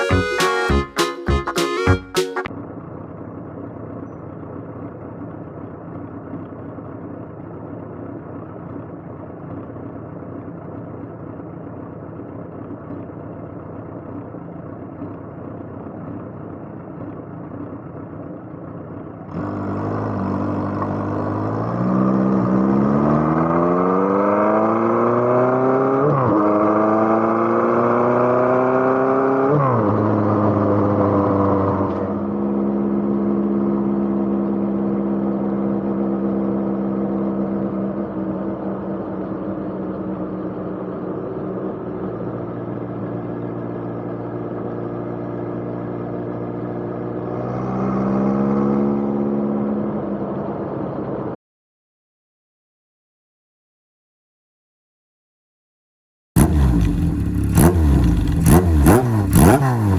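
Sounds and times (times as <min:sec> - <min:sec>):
motorcycle engine: 0:00.0 - 0:51.1, 0:56.4 - 0:59.9.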